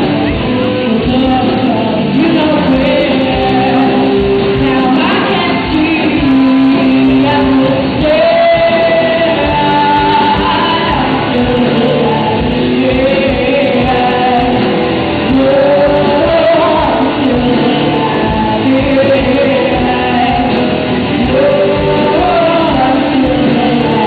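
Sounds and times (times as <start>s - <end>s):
drums: 0.0s - 24.0s
electric guitars: 0.0s - 24.0s
person singing lead vocal: 0.0s - 24.0s.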